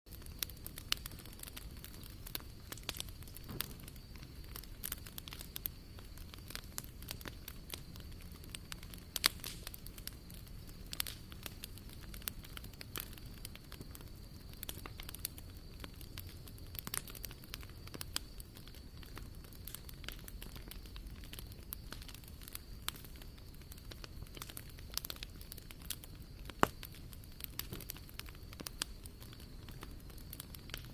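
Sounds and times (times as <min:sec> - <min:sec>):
low rumble of flames: 0:00.1 - 0:30.9
wood fire crackling and popping: 0:00.1 - 0:30.9.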